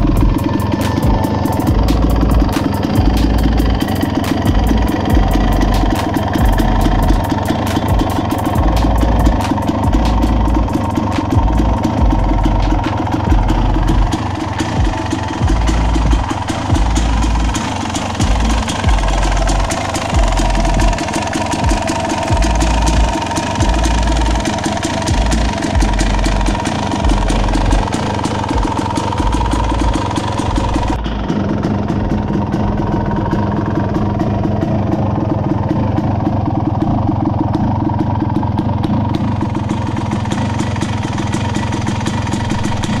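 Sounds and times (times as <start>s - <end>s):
two-stroke engine idling: 0.0s - 43.0s.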